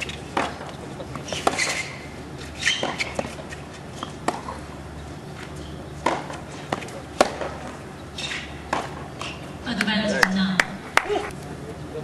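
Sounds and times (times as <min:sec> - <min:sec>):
tennis ball bouncing on court: 0:00.0 - 0:02.0, 0:02.6 - 0:04.7, 0:05.4 - 0:11.0
tennis ball struck by rackets: 0:00.0 - 0:04.6, 0:05.4 - 0:11.0.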